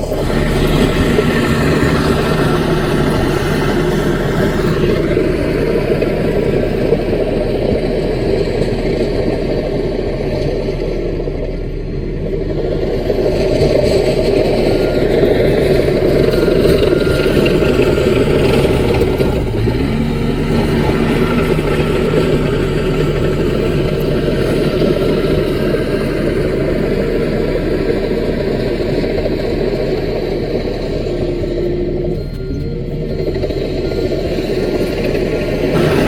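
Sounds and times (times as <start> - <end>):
bulldozer diesel engine running: 0.0 - 36.0
second steady engine tone: 0.0 - 36.0.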